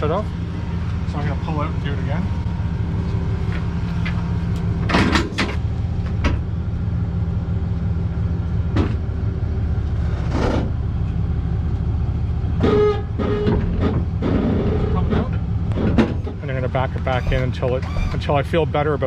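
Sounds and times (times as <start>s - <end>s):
pickup truck engine running: 0.0s - 19.0s.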